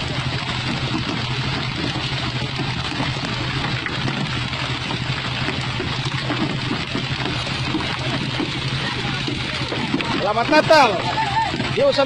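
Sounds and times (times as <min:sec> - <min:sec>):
boat engine droning: 0:00.0 - 0:12.0
water splashing along hull: 0:00.0 - 0:12.0.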